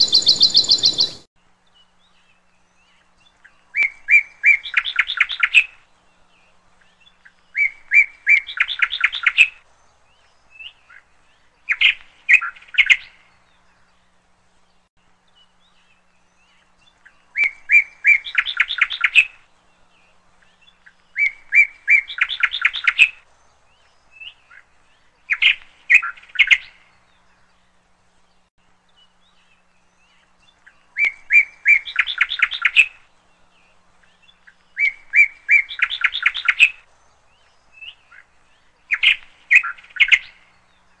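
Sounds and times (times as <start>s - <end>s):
bird singing: 0.0s - 41.0s.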